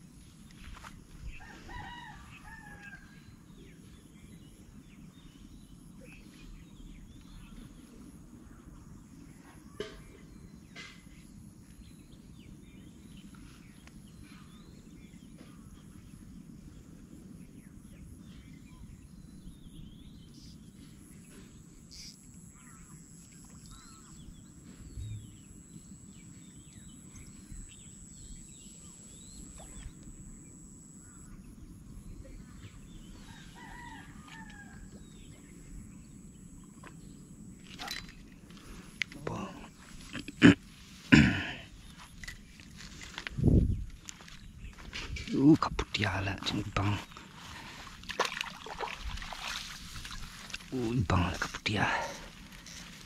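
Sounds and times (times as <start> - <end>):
bird calls: 0.5 - 53.0.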